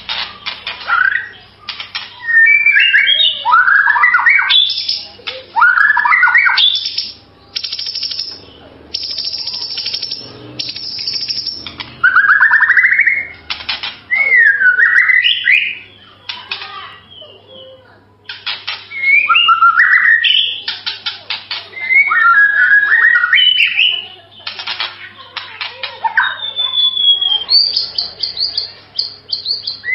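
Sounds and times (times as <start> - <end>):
bird singing: 0.0 - 29.9
faint low hum: 0.0 - 29.9.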